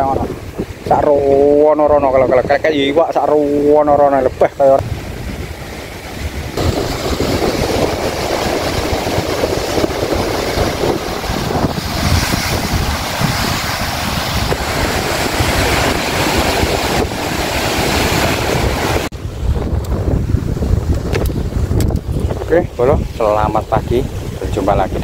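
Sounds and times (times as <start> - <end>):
sea waves washing: 0.0 - 25.0
wind on microphone: 0.0 - 25.0.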